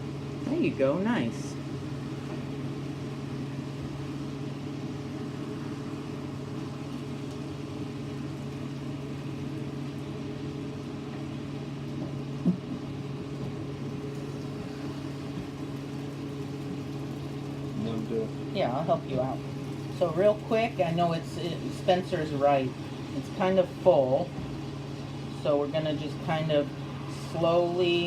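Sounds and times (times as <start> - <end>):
fan motor humming: 0.0 - 28.0.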